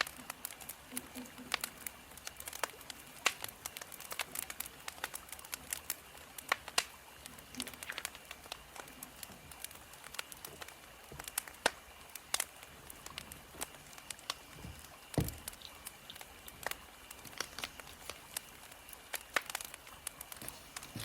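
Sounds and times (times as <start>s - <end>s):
soft hiss of burning logs: 0.0s - 21.0s
wood fire crackling: 0.0s - 21.0s.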